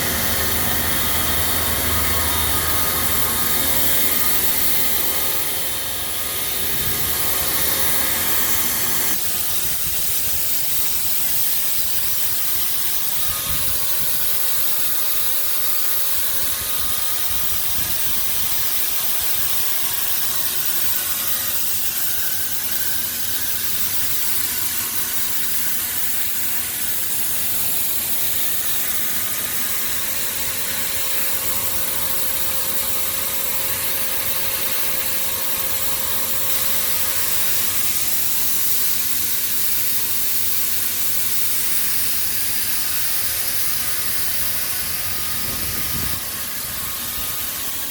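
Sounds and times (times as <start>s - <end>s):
machine whine: 0.0s - 47.9s.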